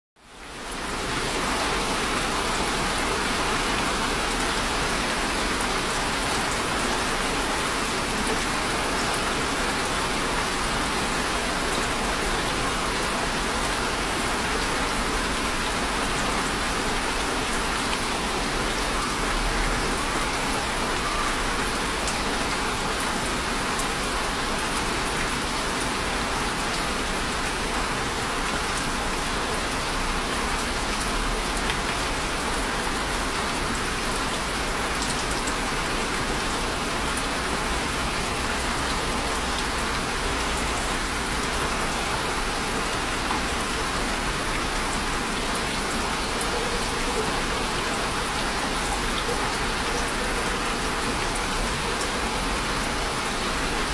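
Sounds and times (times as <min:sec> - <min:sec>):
steady rain falling: 0:00.2 - 0:53.9.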